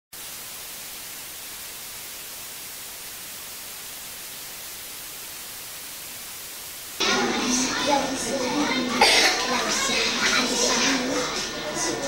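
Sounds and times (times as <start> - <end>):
tape static hiss: 0.1 - 12.0.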